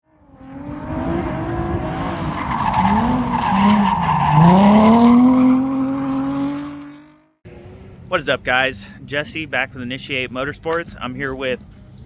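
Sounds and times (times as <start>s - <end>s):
car engine revving: 0.1s - 12.0s
tyres skidding: 0.7s - 12.0s.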